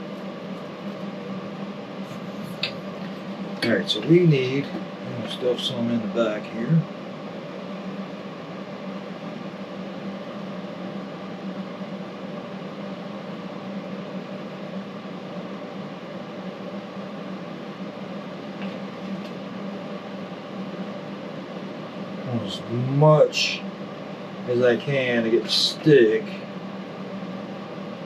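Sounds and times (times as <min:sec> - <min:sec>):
fan humming and whooshing: 0:00.0 - 0:28.0.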